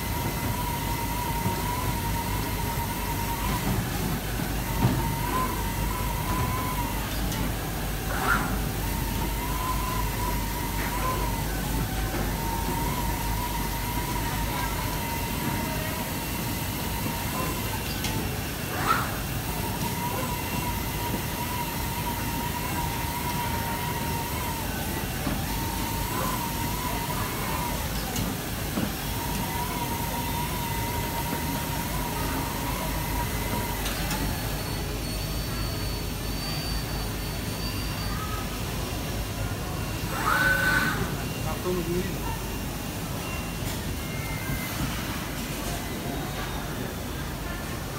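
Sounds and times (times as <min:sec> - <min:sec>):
cutting machine high-pitched whine: 0:00.0 - 0:47.9
machine and factory hum: 0:00.0 - 0:47.9.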